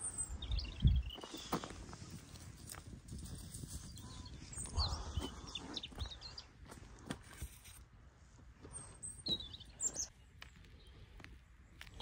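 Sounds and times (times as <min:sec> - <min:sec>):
small birds chirping: 0:00.0 - 0:06.8, 0:08.6 - 0:12.0
faint outdoor background: 0:00.0 - 0:12.0.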